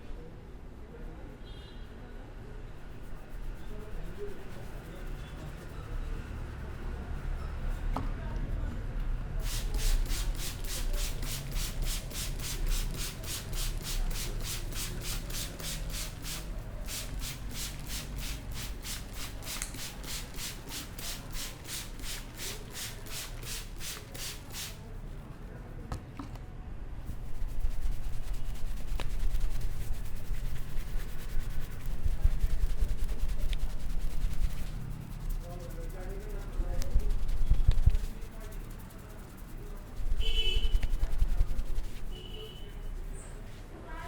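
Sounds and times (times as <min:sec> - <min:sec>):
rubbing strokes over hair: 0:02.8 - 0:07.4, 0:09.4 - 0:25.0, 0:27.1 - 0:43.8.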